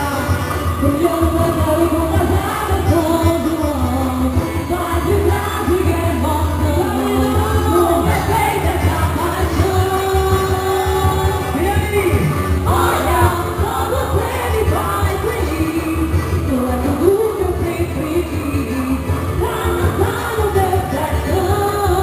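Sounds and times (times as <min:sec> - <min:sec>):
folk dance music with singer: 0:00.0 - 0:22.0.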